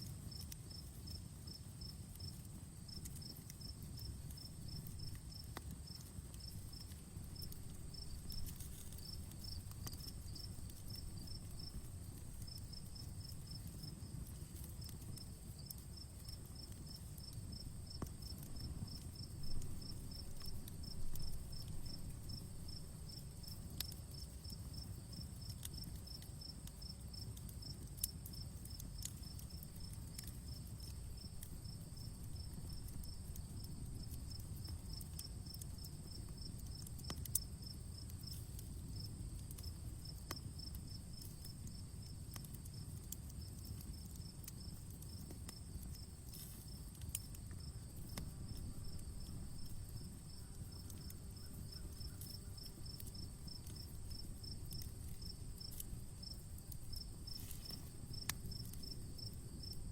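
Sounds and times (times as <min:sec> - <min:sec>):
wood fire crackling and popping: 0:00.0 - 0:59.9
crickets chirping: 0:00.3 - 0:59.9.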